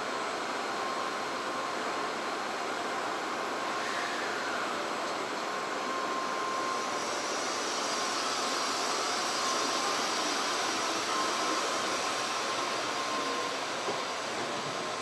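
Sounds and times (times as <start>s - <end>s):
faint steady whine: 0.0s - 15.0s
train running and air noise: 0.0s - 15.0s.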